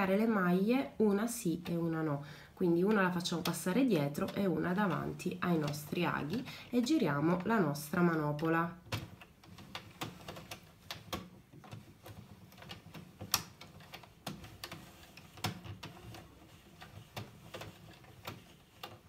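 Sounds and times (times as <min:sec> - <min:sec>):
knitting machine clicking: 0:00.8 - 0:19.0.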